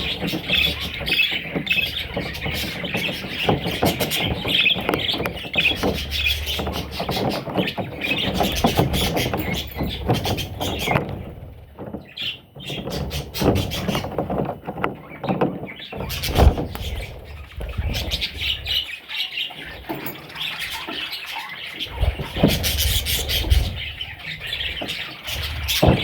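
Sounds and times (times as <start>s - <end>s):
budgerigars chirping and chattering: 0.0s - 26.0s.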